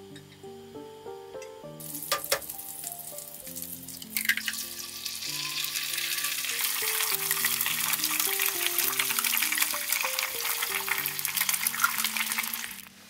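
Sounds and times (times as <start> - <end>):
soft background music: 0.0 - 13.0
oil sizzling in frying pan: 1.8 - 13.0.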